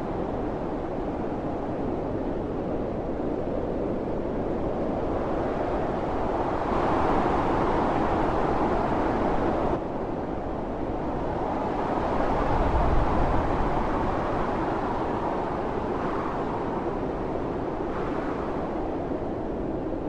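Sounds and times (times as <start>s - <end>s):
storm wind howling: 0.0s - 20.0s.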